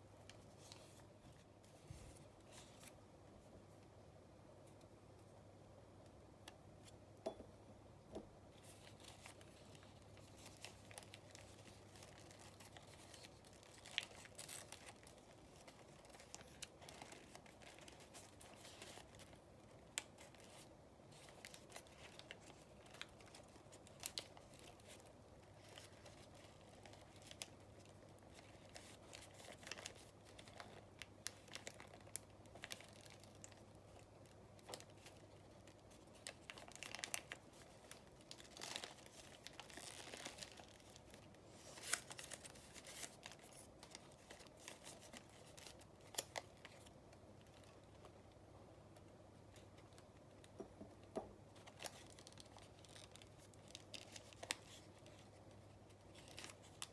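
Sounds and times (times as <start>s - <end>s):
paper crinkling and folding: 0.2s - 3.5s, 8.5s - 48.4s, 49.0s - 56.9s.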